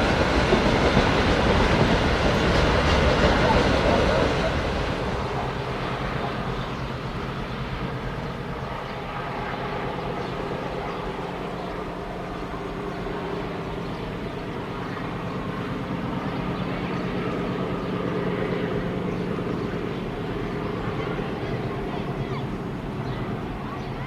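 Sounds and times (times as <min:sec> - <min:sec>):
diesel locomotive engine humming: 0:00.0 - 0:24.0.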